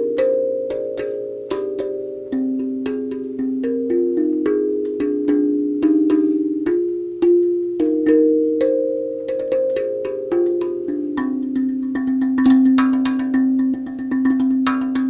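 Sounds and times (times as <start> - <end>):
steel tongue drum melody: 0.0 - 15.0.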